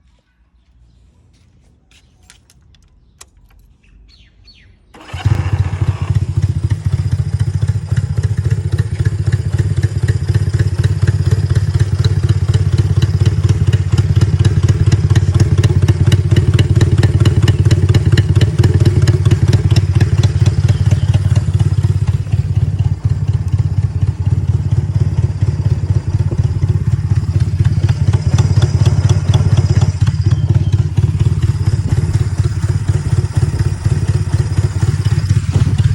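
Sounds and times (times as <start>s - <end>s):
motorcycle engine starting and idling: 4.9s - 35.9s.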